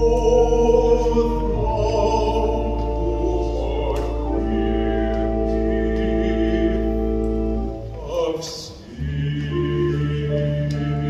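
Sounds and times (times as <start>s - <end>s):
baritone voice singing: 0.0s - 11.0s
pipe organ chords: 0.0s - 11.0s.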